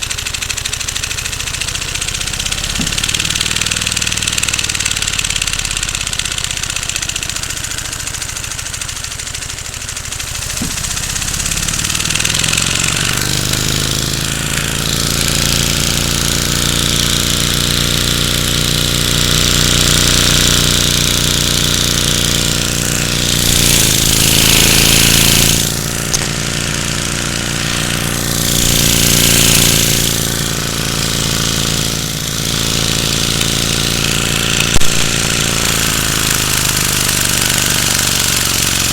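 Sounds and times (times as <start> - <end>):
vacuum engine chattering: 0.0 - 38.9.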